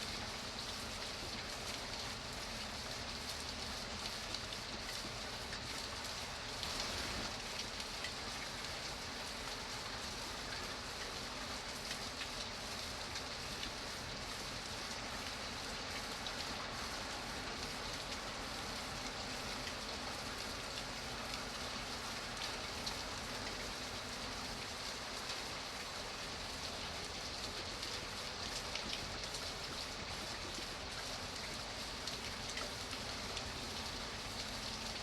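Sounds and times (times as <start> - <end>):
steady rain falling: 0.0 - 35.0
raindrops ticking on a surface: 0.1 - 35.0.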